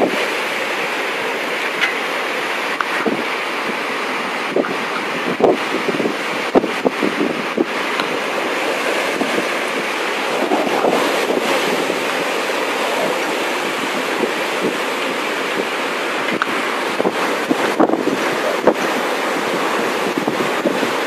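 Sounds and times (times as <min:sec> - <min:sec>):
sea waves: 0:00.0 - 0:21.0
storm wind: 0:00.0 - 0:21.0
wind buffeting microphone: 0:00.0 - 0:21.0.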